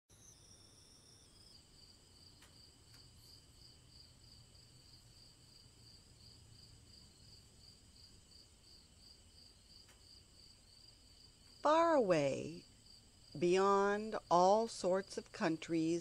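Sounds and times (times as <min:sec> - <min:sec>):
crickets chirping: 0:00.1 - 0:16.0.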